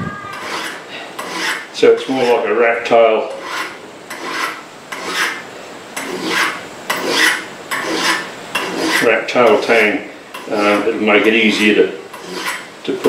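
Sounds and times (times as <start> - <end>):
hand file rasping on steel: 0.3 - 2.5, 3.3 - 5.4, 6.0 - 12.7.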